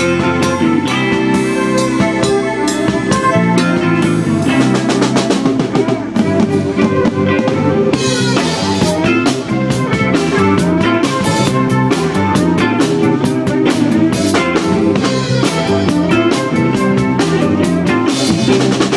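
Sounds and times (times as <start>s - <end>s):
bass guitar: 0.0s - 18.9s
bowed electric violin: 0.0s - 18.9s
drum kit beat: 0.0s - 18.9s
electric guitar: 0.0s - 18.9s.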